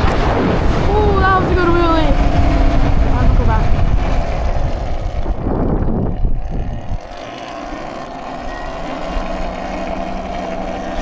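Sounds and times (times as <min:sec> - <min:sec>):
wind buffeting microphone: 0:00.0 - 0:11.0
electric motor whine: 0:01.6 - 0:11.0.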